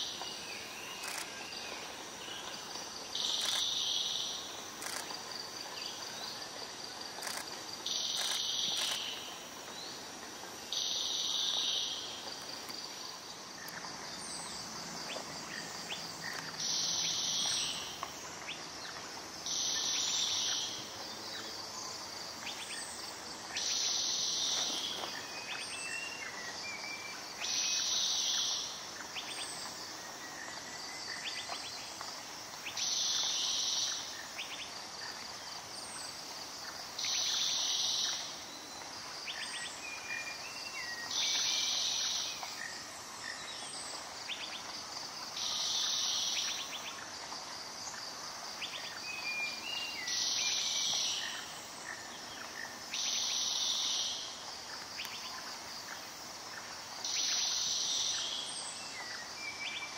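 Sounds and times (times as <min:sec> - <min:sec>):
insect buzzing call: 0:00.0 - 0:59.9.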